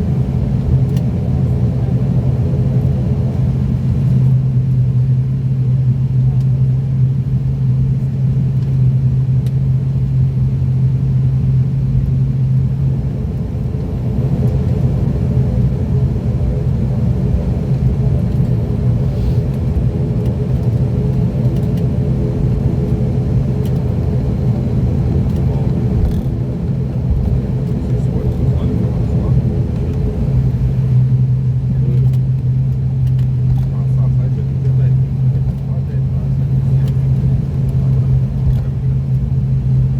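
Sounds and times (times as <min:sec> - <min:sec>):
higher steady engine tones: 0:00.0 - 0:39.9
low propeller hum: 0:00.0 - 0:39.9
turboprop engines droning: 0:00.0 - 0:39.9.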